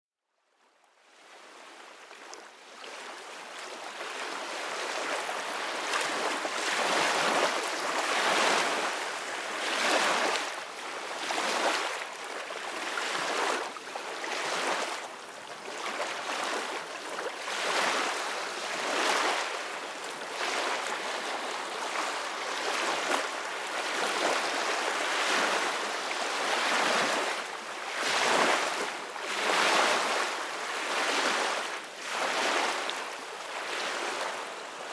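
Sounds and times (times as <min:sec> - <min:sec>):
ocean waves breaking: 0:04.1 - 0:15.0, 0:15.7 - 0:32.9.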